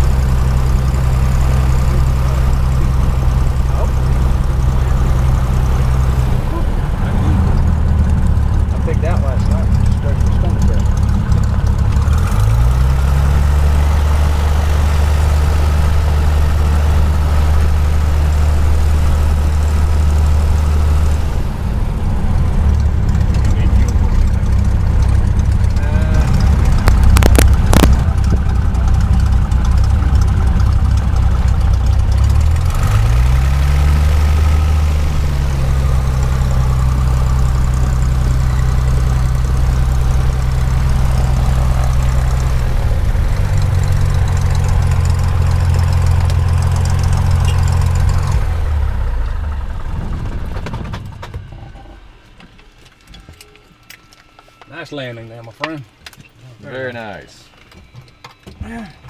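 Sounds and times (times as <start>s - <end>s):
airplane engine idling: 0.0s - 56.0s.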